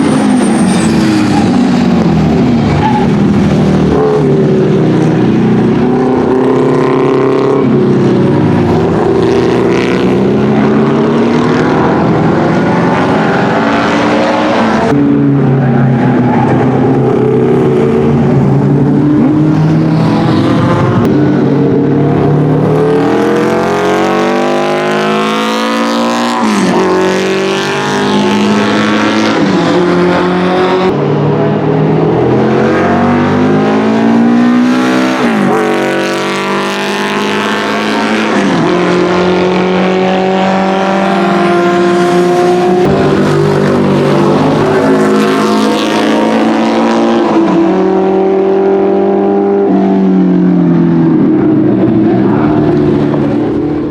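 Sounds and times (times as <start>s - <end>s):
racing car engine accelerating: 0.0s - 53.9s.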